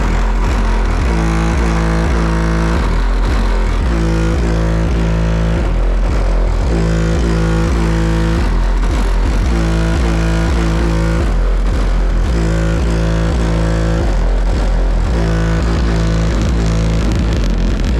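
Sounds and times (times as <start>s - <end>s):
music with heavy sub-bass: 0.0s - 17.9s.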